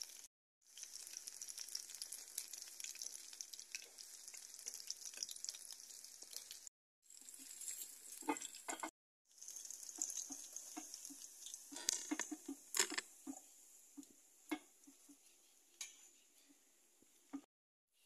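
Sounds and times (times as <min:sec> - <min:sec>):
hot oil sizzling in a wok: 0:00.0 - 0:16.5.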